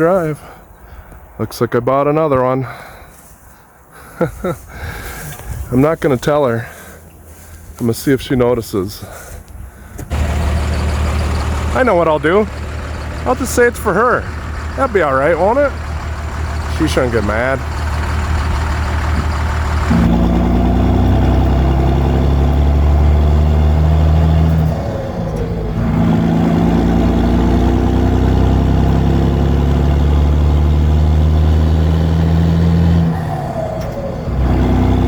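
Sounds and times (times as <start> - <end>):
vehicle engine running under load: 4.0 - 35.0.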